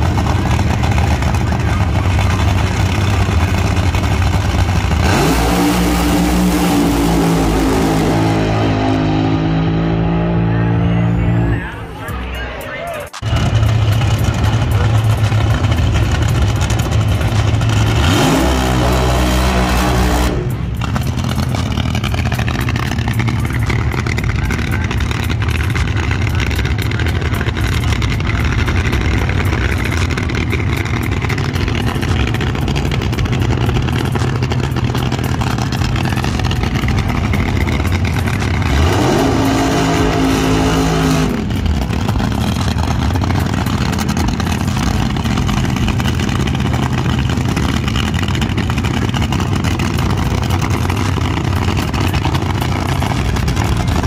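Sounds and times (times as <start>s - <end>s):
engine revving: 0.0s - 12.2s, 13.2s - 54.0s
drag racing car engines rumbling: 0.0s - 54.0s.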